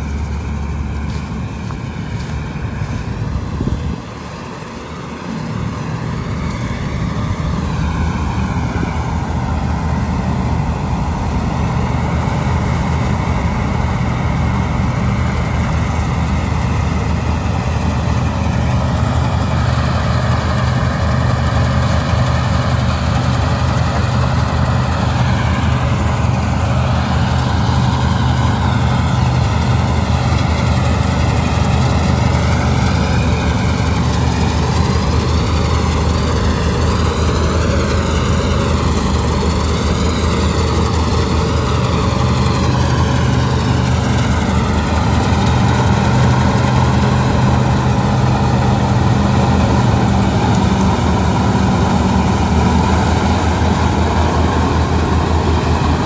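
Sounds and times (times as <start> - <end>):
machine whine: 0.0 - 56.0
tractor diesel engine running: 0.0 - 56.0.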